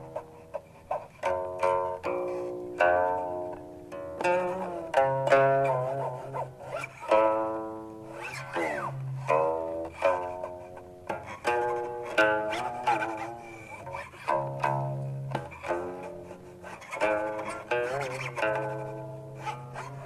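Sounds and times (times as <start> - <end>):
zither plucked notes: 0.0 - 20.0.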